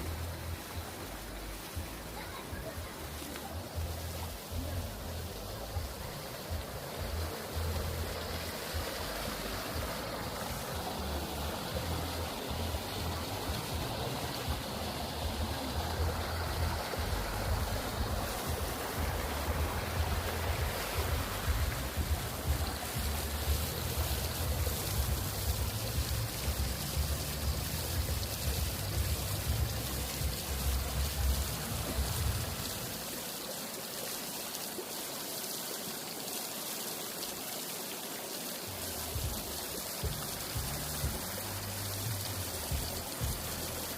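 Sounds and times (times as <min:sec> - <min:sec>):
water rushing: 0:00.0 - 0:43.9.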